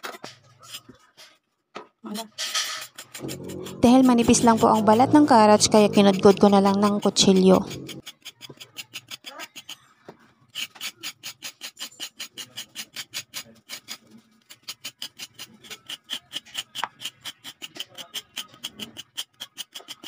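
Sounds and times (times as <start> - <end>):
knife scraping carrot skin: 0.0 - 1.4, 2.1 - 9.9, 10.5 - 20.0.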